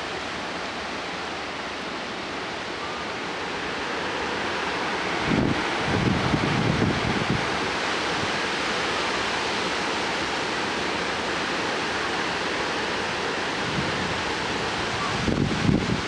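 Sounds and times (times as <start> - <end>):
wind and rain rushing: 0.0 - 16.0.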